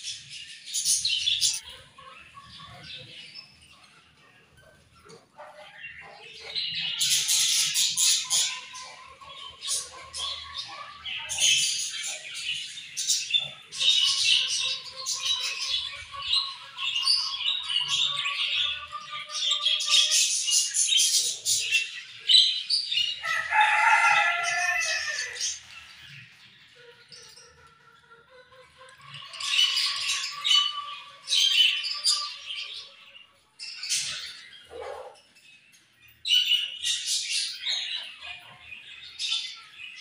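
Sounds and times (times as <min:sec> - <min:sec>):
budgerigars chirping and warbling: 0:00.0 - 0:40.0.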